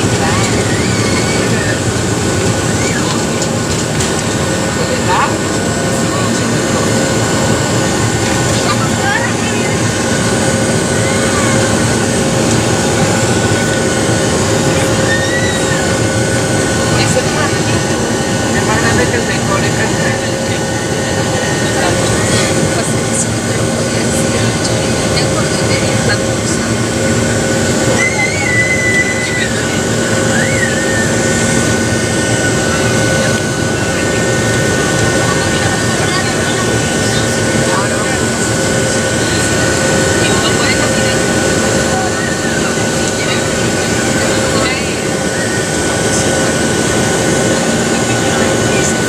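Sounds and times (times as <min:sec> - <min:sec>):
airplane cabin rushing noise: 0:00.0 - 0:49.0
jet engines roaring: 0:00.0 - 0:49.0
steady hum tone: 0:00.0 - 0:49.0.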